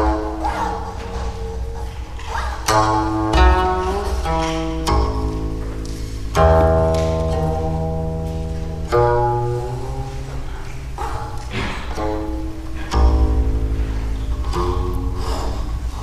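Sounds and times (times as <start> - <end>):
plucked zither notes: 0.0 - 16.0.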